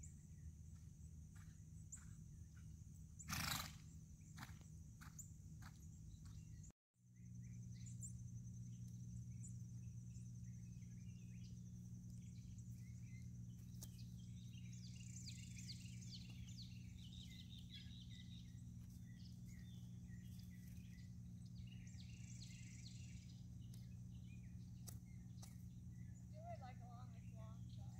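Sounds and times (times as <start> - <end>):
bird chirps: 0.0 - 27.9
steady low hum: 0.0 - 27.9.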